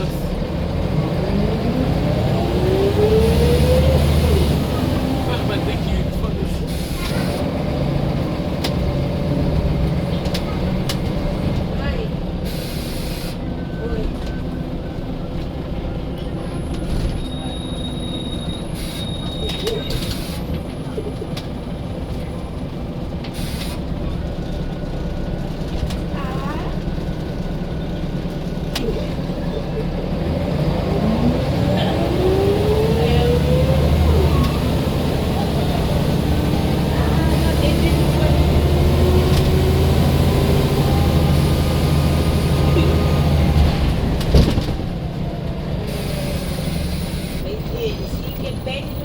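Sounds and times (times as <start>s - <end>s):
bus diesel engine drone: 0.0s - 49.0s.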